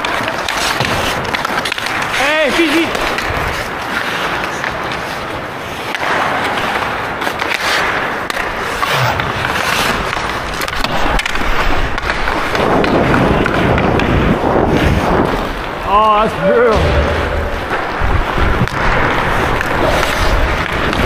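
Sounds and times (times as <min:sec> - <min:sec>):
skate blades scraping ice: 0:00.0 - 0:21.0.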